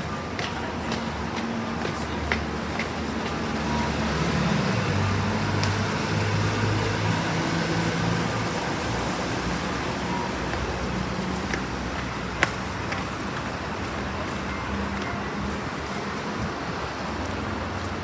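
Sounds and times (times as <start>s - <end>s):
vehicle motor humming: 0.0s - 18.0s.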